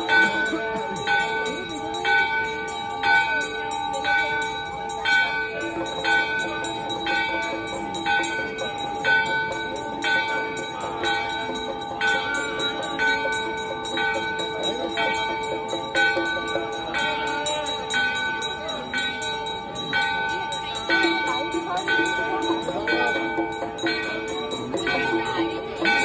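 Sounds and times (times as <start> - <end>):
temple bell ringing: 0.0 - 26.0.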